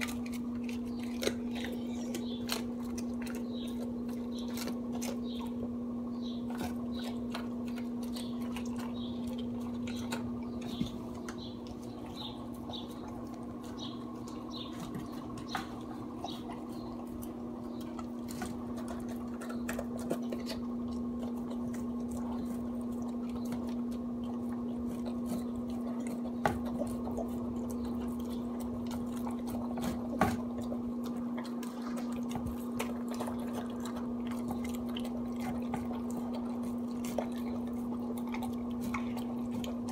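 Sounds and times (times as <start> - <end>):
dog chewing and licking: 0.0 - 39.9
steady low hum: 0.0 - 39.9.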